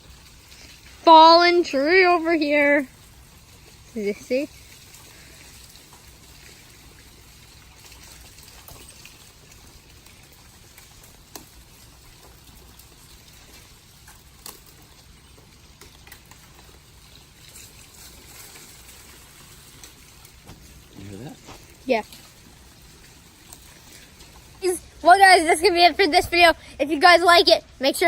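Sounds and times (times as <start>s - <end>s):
running water trickling: 0.0s - 28.0s.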